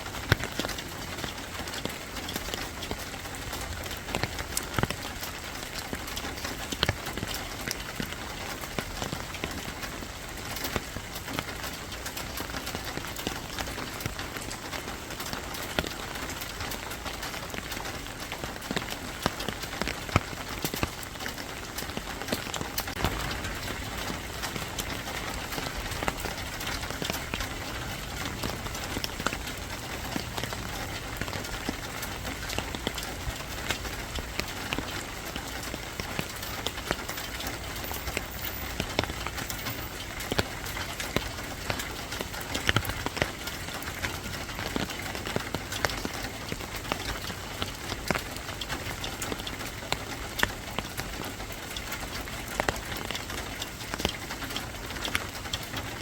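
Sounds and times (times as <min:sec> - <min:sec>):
raindrops ticking on a surface: 0:00.0 - 0:56.0
steady rain falling: 0:00.0 - 0:56.0.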